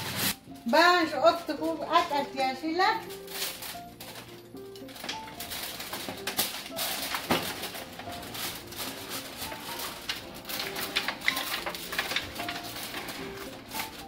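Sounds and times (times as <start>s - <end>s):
aluminium foil crinkling: 0.0s - 14.0s
pan scraping on oven rack: 0.0s - 14.0s.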